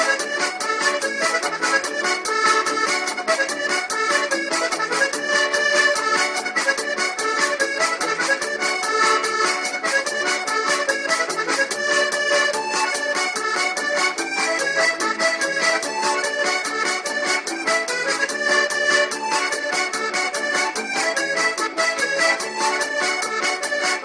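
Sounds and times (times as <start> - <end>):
music with held chords and beat: 0.0 - 24.0.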